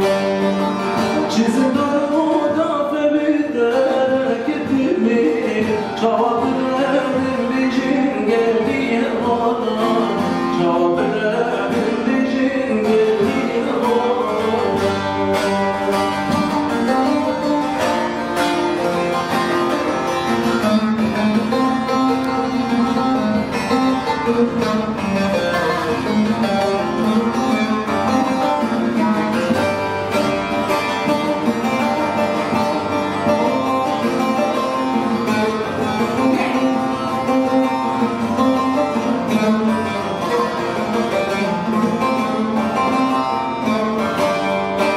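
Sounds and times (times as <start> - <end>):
plucked long-necked lute: 0.0 - 44.9.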